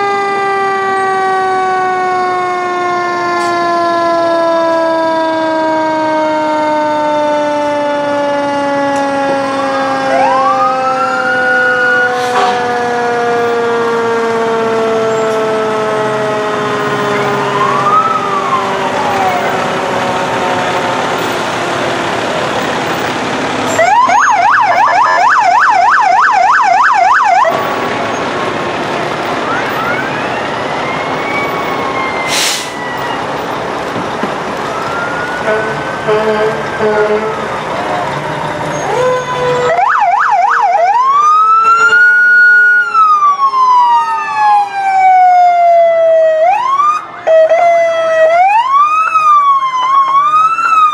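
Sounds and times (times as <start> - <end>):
electronic siren yelp: 0.0 - 21.6, 23.6 - 27.8, 29.3 - 33.4, 34.6 - 50.9
siren chirps: 0.0 - 28.4, 29.1 - 50.9
siren wailing: 0.0 - 50.9.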